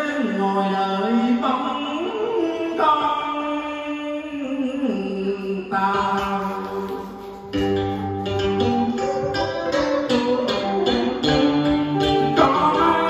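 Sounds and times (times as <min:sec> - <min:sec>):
man singing into microphone: 0:00.0 - 0:08.0, 0:08.7 - 0:13.0.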